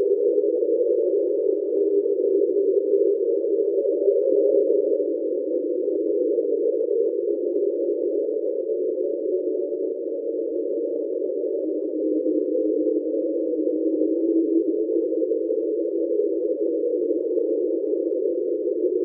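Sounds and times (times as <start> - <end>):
underwater drone of close tones: 0.0 - 19.0.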